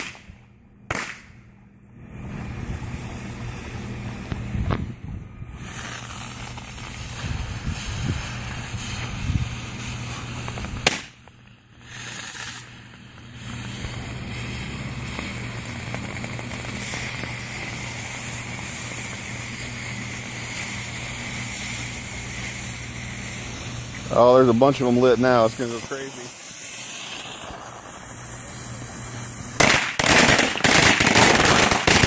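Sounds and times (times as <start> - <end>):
firecracker bang: 0.0 - 1.4, 2.1 - 11.2, 11.9 - 32.0
fireworks hissing: 2.0 - 32.0.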